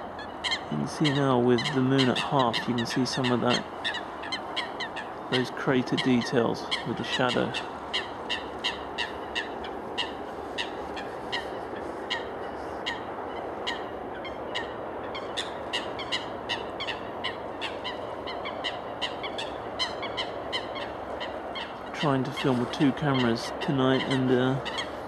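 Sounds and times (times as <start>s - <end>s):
birds calling sharply: 0.0s - 25.0s
steady rushing noise: 0.0s - 25.0s.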